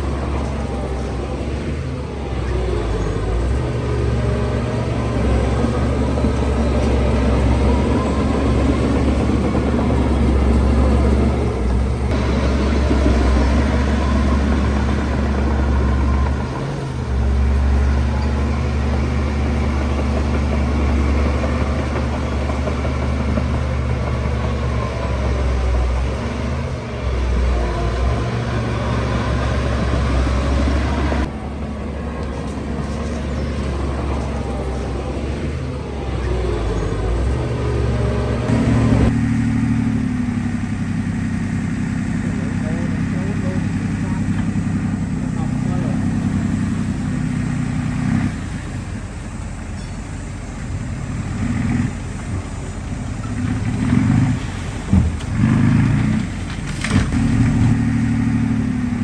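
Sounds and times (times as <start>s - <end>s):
diesel construction machinery drone: 0.0s - 59.0s.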